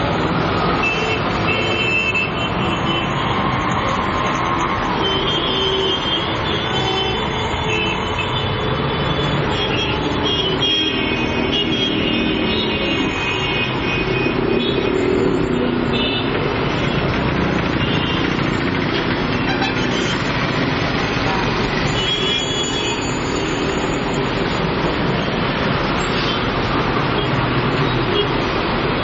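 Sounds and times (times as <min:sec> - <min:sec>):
road traffic din: 0:00.0 - 0:29.0.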